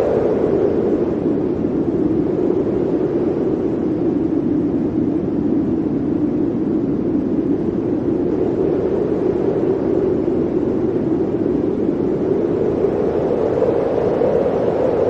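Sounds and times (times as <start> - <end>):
blizzard wind blowing: 0.0 - 15.0.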